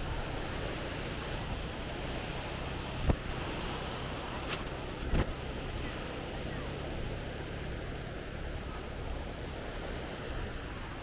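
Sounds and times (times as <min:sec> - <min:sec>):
sea waves breaking on shore: 0:00.0 - 0:11.0.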